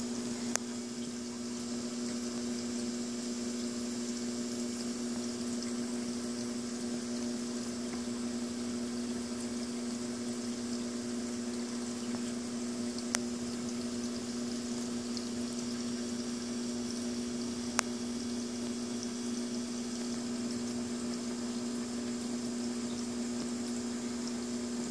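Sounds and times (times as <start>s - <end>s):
aquarium pump hum: 0.0s - 24.9s
hiss of moving water: 0.0s - 24.9s.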